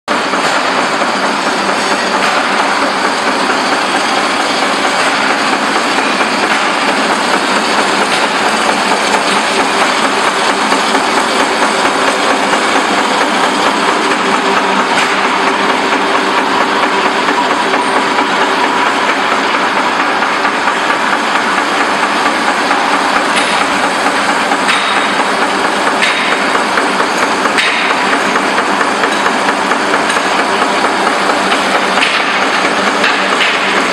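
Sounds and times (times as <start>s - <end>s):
printing machine running: 0.1s - 33.9s.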